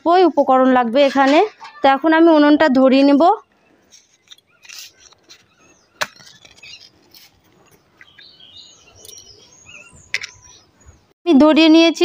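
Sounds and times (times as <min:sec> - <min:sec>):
small birds chirping: 0:01.1 - 0:11.1.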